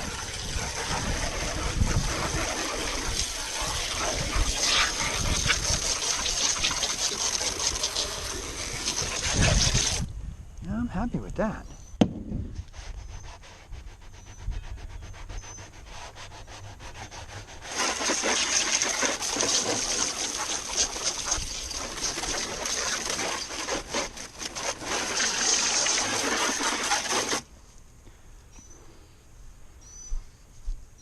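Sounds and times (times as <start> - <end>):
brush scrubbing plastic hull: 0.0 - 10.0, 12.6 - 27.5.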